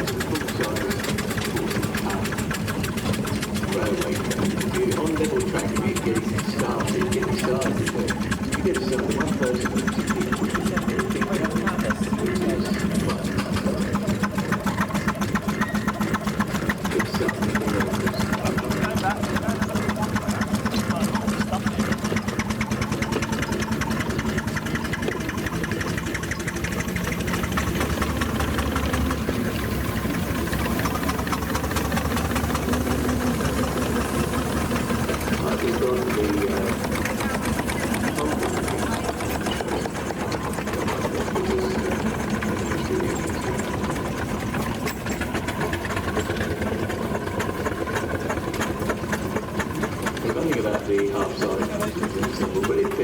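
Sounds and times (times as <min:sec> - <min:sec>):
engine ticking and humming: 0:00.0 - 0:53.0
rapid mechanical clicking clatter: 0:00.0 - 0:53.0.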